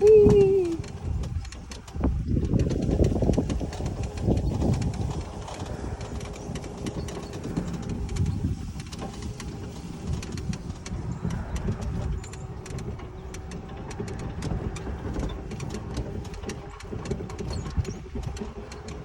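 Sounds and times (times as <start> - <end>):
rattles and knocks: 0.0 - 19.0
small vehicle engine droning: 0.0 - 19.0.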